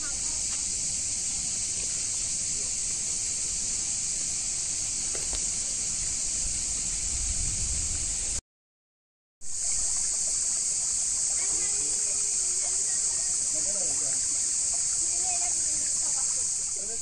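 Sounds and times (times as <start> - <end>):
stream running over stones: 0.0 - 7.0, 9.5 - 17.0.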